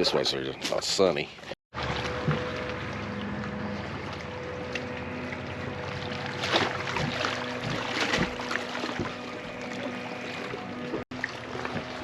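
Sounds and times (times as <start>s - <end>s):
water splashes: 0.8s - 12.0s
small waves lapping on shore: 1.7s - 12.0s.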